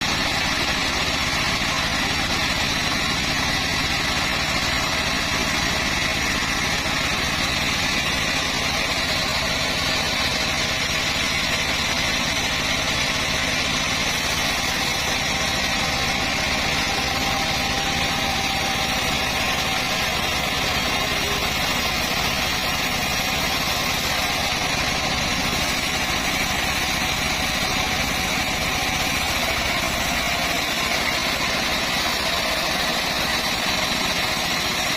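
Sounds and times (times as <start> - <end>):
chainsaw engine running: 0.0 - 34.9.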